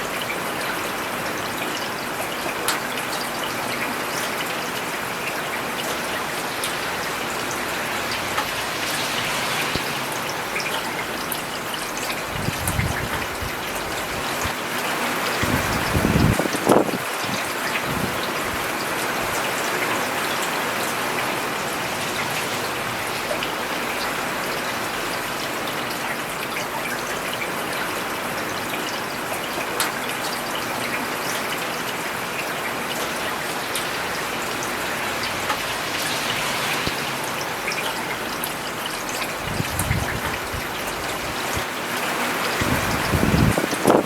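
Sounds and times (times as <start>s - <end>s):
rain on a paved road: 0.0s - 44.0s.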